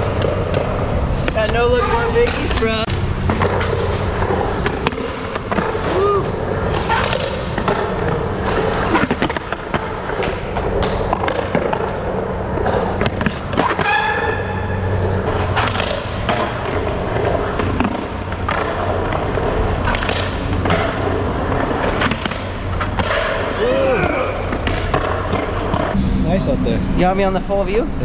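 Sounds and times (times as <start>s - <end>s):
skateboard clacks: 0.0s - 26.0s
skateboard wheels rolling on concrete: 0.0s - 26.0s.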